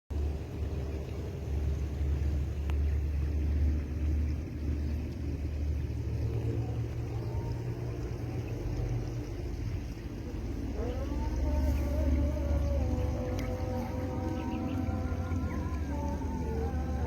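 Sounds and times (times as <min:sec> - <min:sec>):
boat engine droning: 0:00.1 - 0:17.0.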